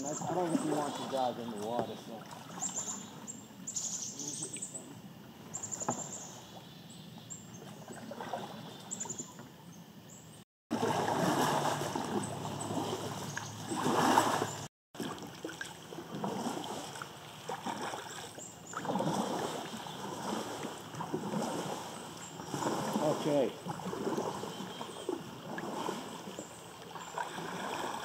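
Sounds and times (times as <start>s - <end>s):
paddle strokes splashing water: 0.0s - 3.5s, 7.6s - 9.5s, 10.7s - 28.0s.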